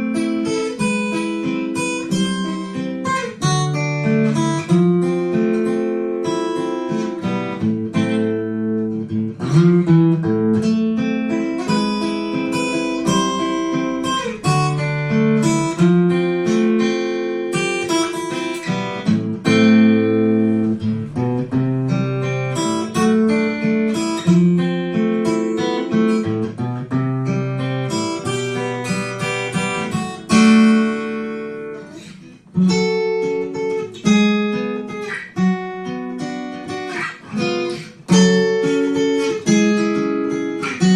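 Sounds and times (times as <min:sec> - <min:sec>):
acoustic guitar plucking: 0:00.0 - 0:40.9.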